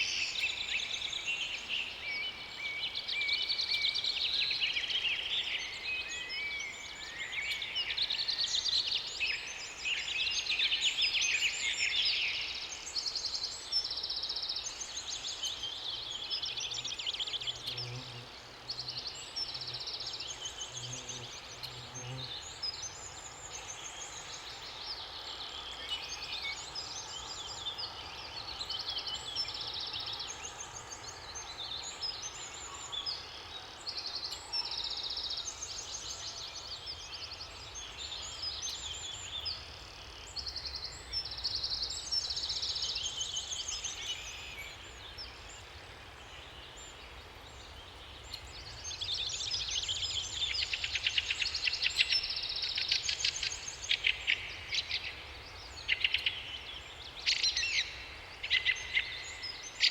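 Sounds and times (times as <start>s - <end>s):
low background hiss: 0.0s - 59.9s
songbirds singing: 0.0s - 59.9s.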